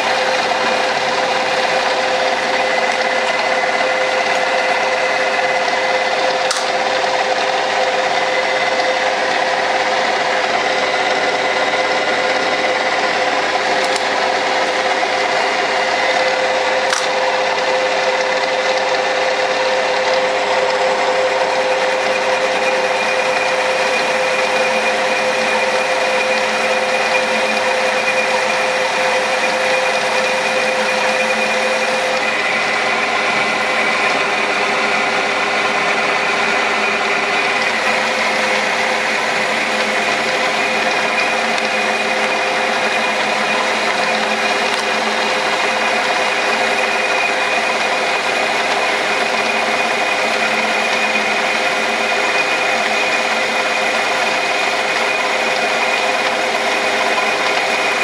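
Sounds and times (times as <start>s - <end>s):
metal lathe cutting: 0.0s - 58.0s.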